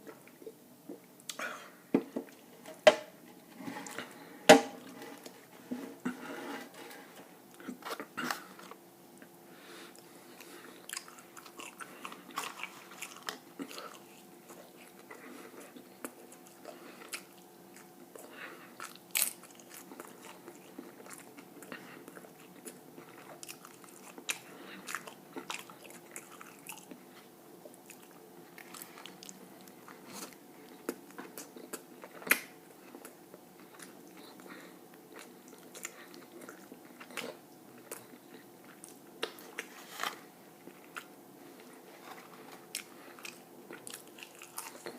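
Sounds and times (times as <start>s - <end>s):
faint steady hum: 0.0s - 44.9s
person chewing food: 0.0s - 44.9s.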